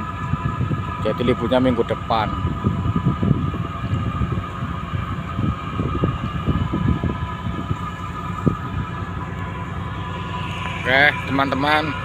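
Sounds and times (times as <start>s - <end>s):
machinery drone with whining tones: 0.0s - 12.0s
wind buffeting microphone: 0.0s - 12.0s.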